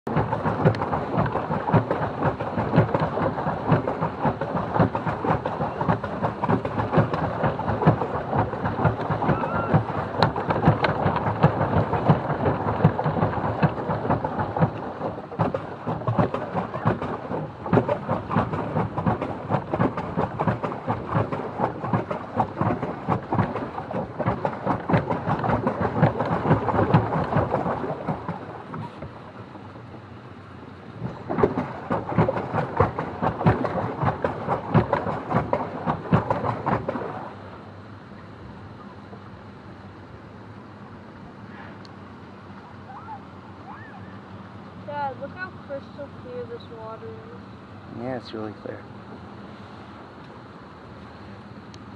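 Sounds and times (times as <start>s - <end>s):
paddle wheel splashing water: 0.0s - 51.9s.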